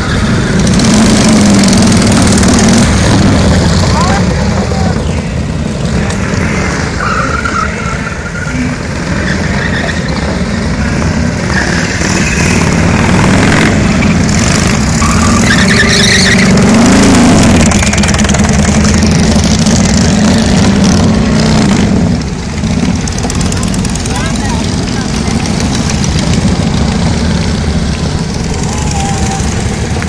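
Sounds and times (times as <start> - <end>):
motorcycle engine revving: 0.0 - 7.4, 8.8 - 30.0
motorcycle engines rumbling: 0.0 - 30.0.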